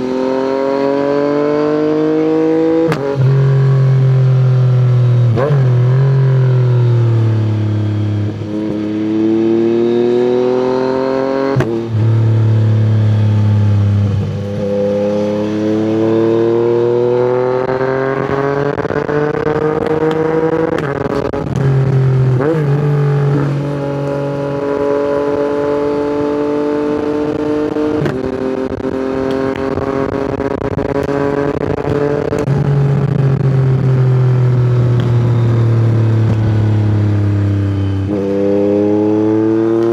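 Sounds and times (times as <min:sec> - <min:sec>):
exhaust cracks: 0:00.0 - 0:09.2, 0:10.1 - 0:39.9
motorcycle engine revving: 0:00.0 - 0:39.9.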